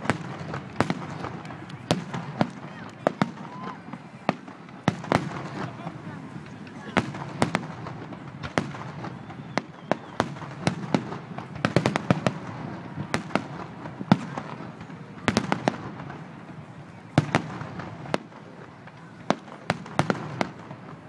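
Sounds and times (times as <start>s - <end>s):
fireworks bursting in sharp bangs: 0.0s - 21.0s.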